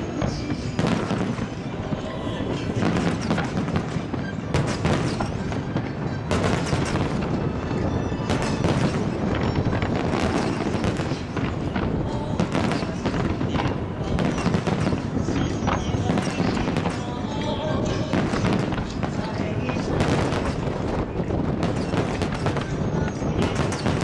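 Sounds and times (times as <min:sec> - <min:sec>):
fireworks crackling and rumbling: 0:00.0 - 0:24.0
sharp firework bangs: 0:02.8 - 0:24.0.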